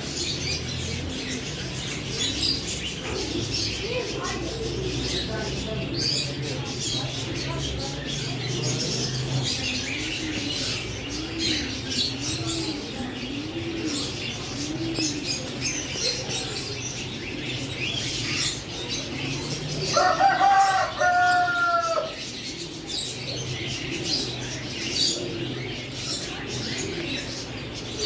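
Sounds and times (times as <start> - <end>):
low bird cooing: 0.0 - 28.0
small birds chirping: 0.0 - 28.0.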